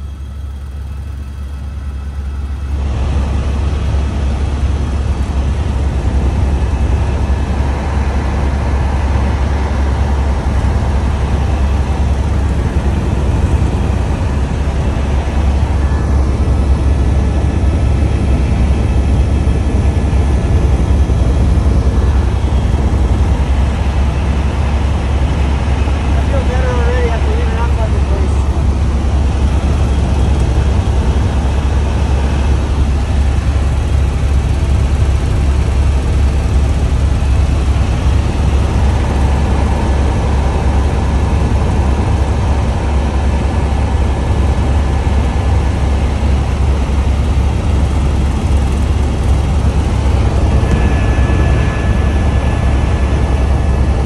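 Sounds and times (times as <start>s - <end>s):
constant rushing noise: 0.0s - 54.0s
vehicle engine rumble: 0.0s - 54.0s.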